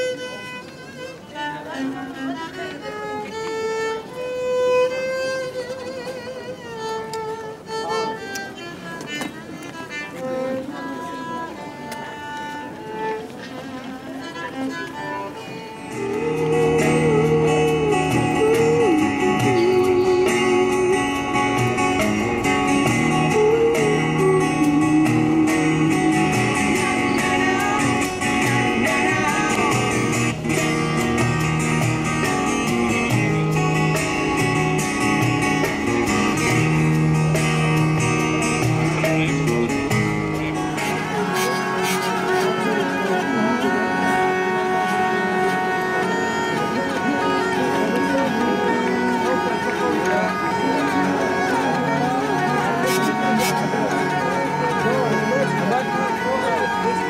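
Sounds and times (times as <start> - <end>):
plucked guitar: 0.0 - 57.0
wavering string melody: 0.0 - 57.0.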